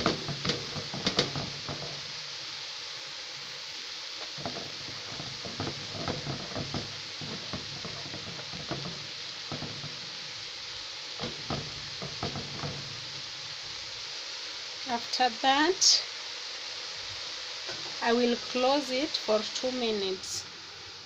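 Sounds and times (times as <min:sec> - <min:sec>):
onion and tomato sizzling: 0:00.0 - 0:21.0.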